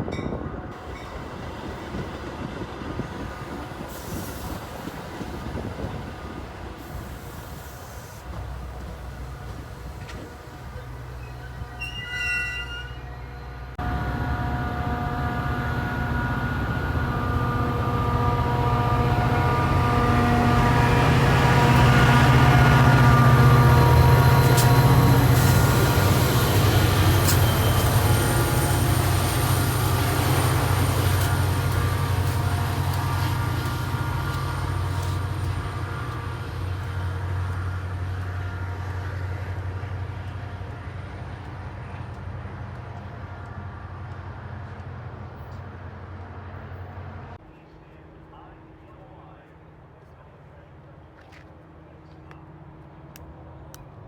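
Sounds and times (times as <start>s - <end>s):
diesel train passing: 0.0s - 54.0s.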